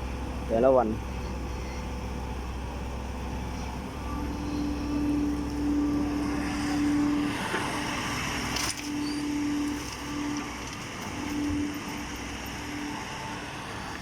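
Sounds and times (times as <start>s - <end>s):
diesel machinery running: 0.0s - 14.0s
steady whine: 0.0s - 14.0s.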